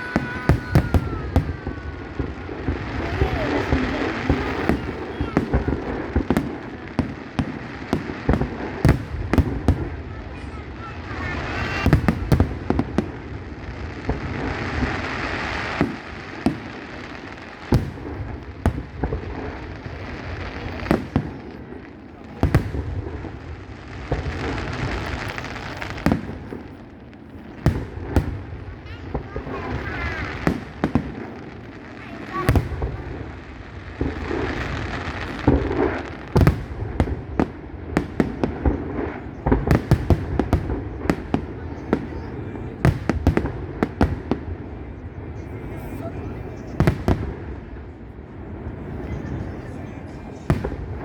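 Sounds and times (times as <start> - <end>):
continuous noisy background: 0.0 - 51.0
fireworks bangs: 0.0 - 51.0
fireworks crackle: 0.0 - 51.0.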